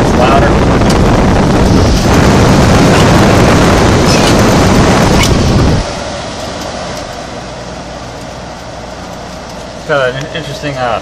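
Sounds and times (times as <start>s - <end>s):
air conditioner fan airflow rushing: 0.0s - 11.0s.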